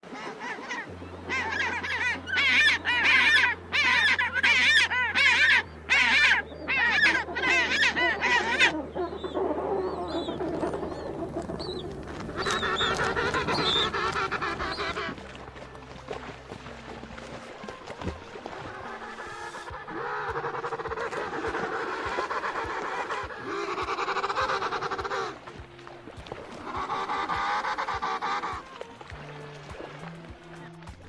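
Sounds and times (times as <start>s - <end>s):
flock of birds honking: 0.0s - 25.7s, 26.3s - 30.9s.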